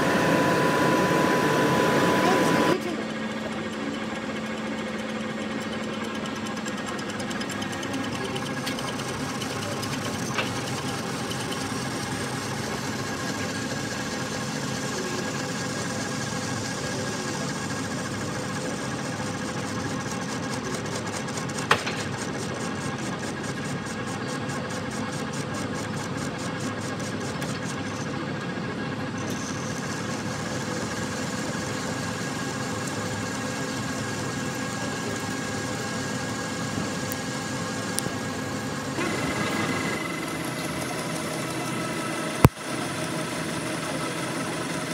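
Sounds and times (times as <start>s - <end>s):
metal lathe cutting: 0.0s - 44.9s.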